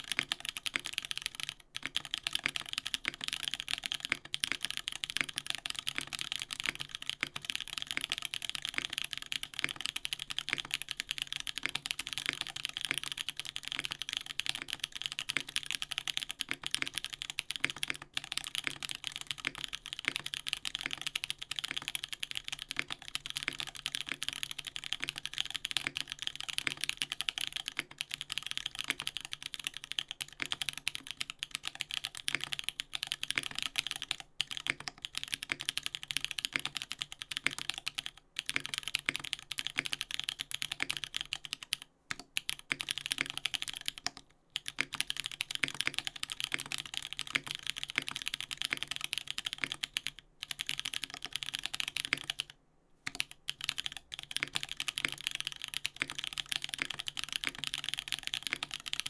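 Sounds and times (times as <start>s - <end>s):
mechanical keyboard typing: 0.0s - 59.0s.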